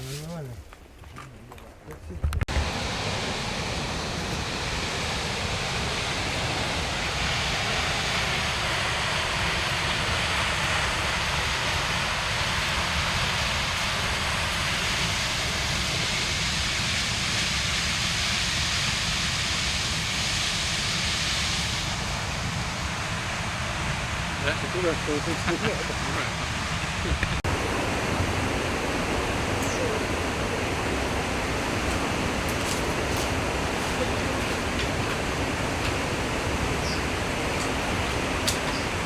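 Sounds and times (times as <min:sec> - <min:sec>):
steady rushing noise: 0:02.2 - 0:39.0.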